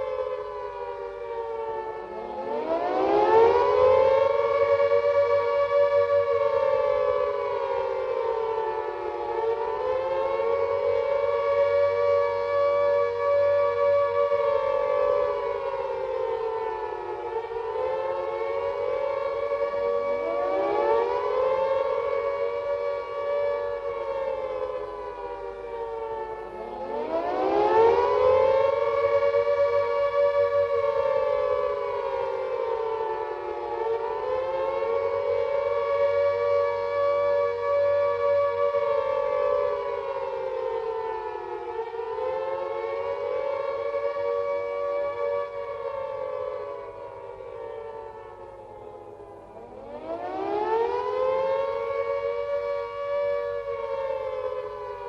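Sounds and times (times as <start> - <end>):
civil defense sirens: 0.0 - 55.0.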